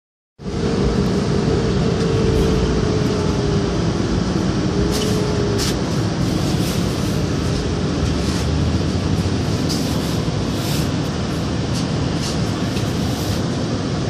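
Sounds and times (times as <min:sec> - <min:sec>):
bus engine and road rumble: 0:00.4 - 0:14.0
faint whine: 0:00.4 - 0:14.0.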